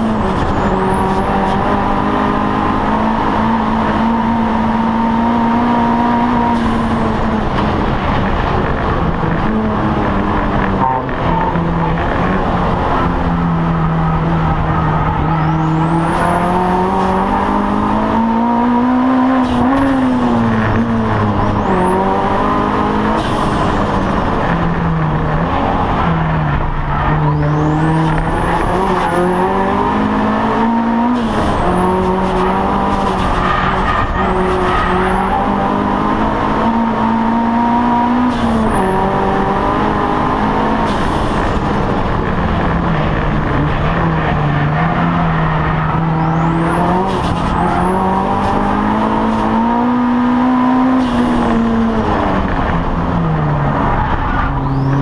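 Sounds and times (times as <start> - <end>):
high engine whine: 0.0 - 55.0
race car engine revving: 0.0 - 55.0.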